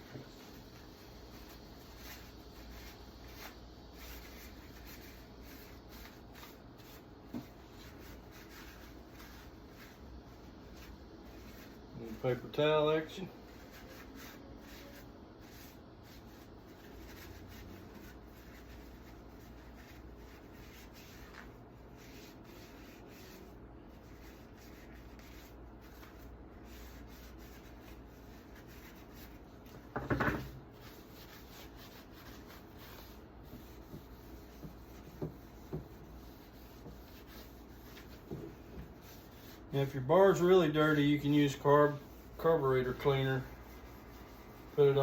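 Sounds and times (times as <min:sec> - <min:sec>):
paper towel scrubbing: 0:00.0 - 0:45.0.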